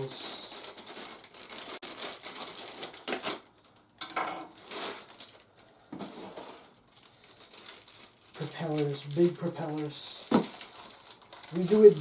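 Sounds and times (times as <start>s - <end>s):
plastic packaging rustling: 0.0s - 3.9s, 4.5s - 12.0s.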